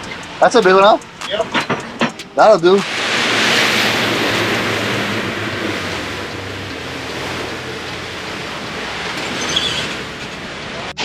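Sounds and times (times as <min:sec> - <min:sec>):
boat engine humming: 0:00.0 - 0:11.0
water rushing around boat: 0:00.0 - 0:11.0
wind: 0:00.0 - 0:11.0.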